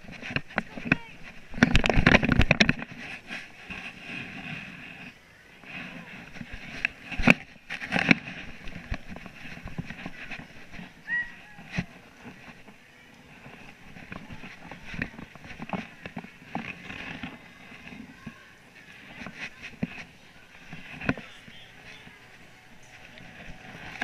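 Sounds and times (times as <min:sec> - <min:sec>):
camera handling rubbing and knocks: 0:00.0 - 0:05.1, 0:06.2 - 0:12.8, 0:13.5 - 0:24.0
background chatter: 0:00.0 - 0:24.0.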